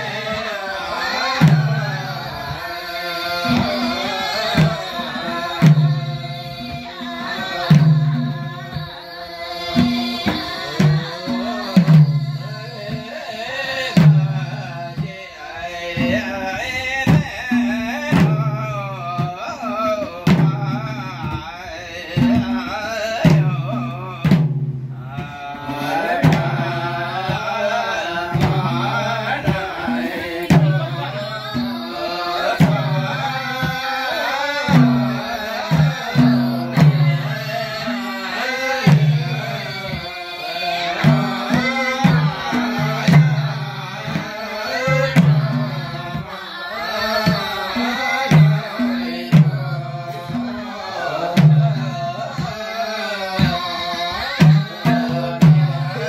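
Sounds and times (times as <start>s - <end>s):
barrel hand drum rhythm: 0.0s - 56.0s
voices singing folk song: 0.0s - 56.0s.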